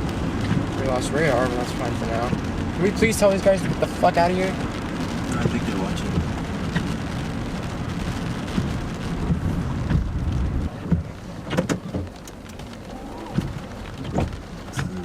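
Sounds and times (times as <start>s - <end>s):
heavy rain hiss: 0.0s - 15.0s
thunder rumble and crackle: 0.0s - 15.0s.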